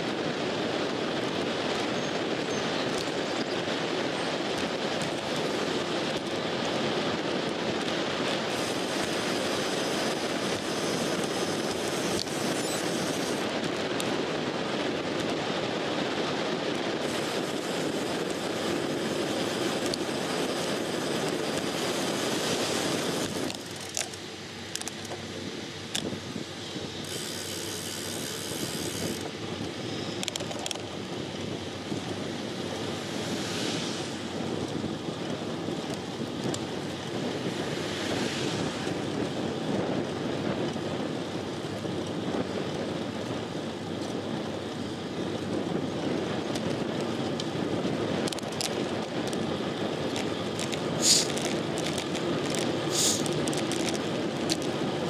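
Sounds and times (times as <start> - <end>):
bicycle tyre noise: 0.0 - 55.0
wind rushing over microphone: 0.0 - 55.0.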